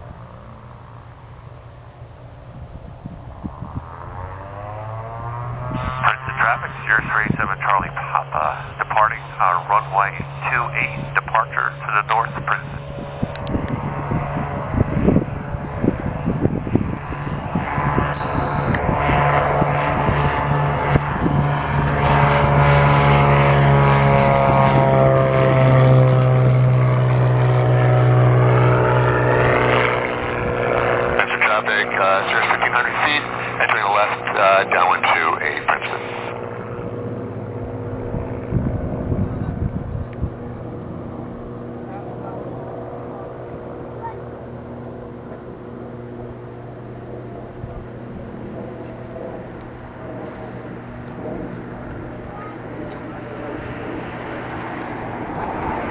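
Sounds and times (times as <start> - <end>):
propeller plane engine drone: 0.0 - 55.9.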